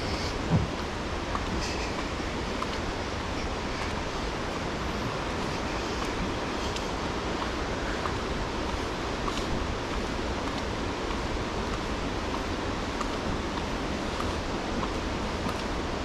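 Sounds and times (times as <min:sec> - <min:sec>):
rushing falling water: 0:00.0 - 0:16.0
faint ticks: 0:00.1 - 0:02.9, 0:05.4 - 0:15.7.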